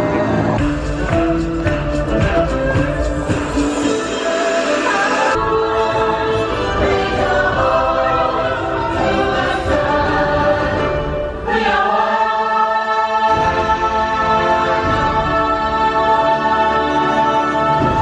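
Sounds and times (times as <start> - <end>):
choir singing sustained chords: 3.0 - 18.0.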